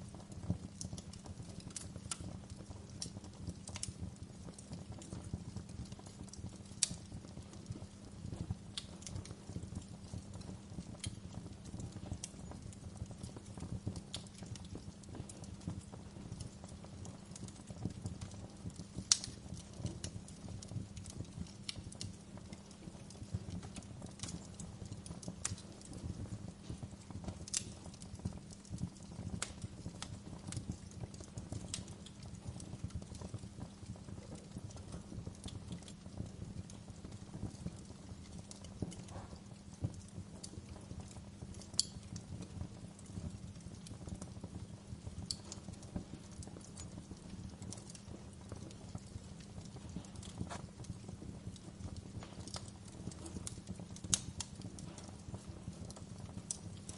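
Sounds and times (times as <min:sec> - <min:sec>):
fire popping: 0:00.0 - 0:56.9
wood fire crackling: 0:00.0 - 0:56.9.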